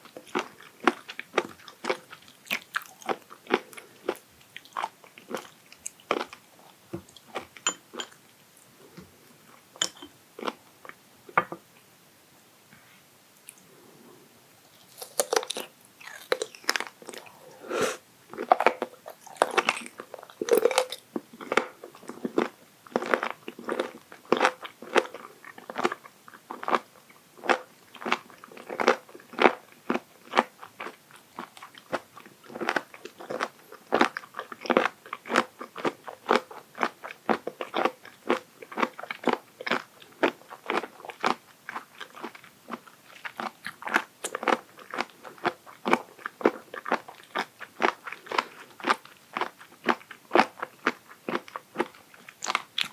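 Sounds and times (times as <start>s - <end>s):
crisp chewing crunches: 0.2s - 6.4s, 14.7s - 26.8s, 27.4s - 52.9s.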